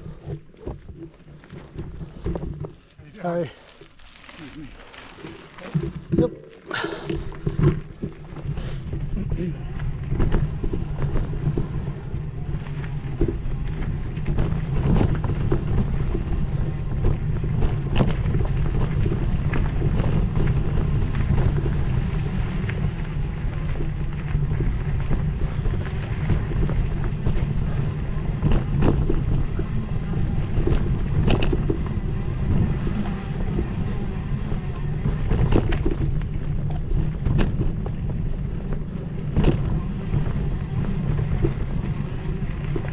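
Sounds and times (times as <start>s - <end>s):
low rumble of ride on dirt trail: 0.0s - 42.9s
wind buffeting microphone: 5.8s - 42.9s.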